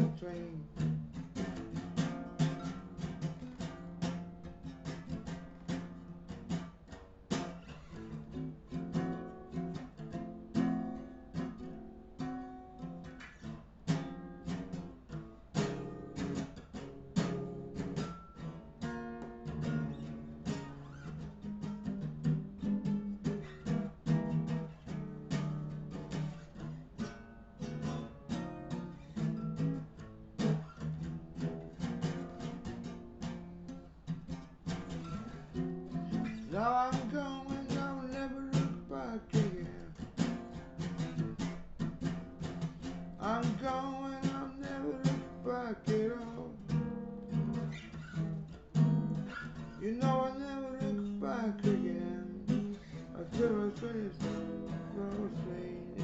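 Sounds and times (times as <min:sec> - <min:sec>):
guitar instrumental: 0:00.0 - 0:56.0.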